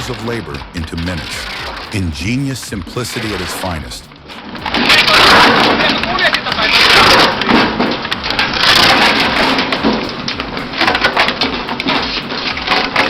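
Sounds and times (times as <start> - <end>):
machine noise: 0.0 - 13.0.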